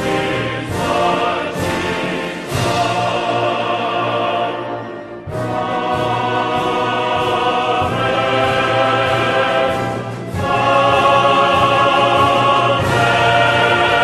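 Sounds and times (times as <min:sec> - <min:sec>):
choir singing: 0:00.0 - 0:14.0
instrumental accompaniment with beat: 0:00.0 - 0:14.0.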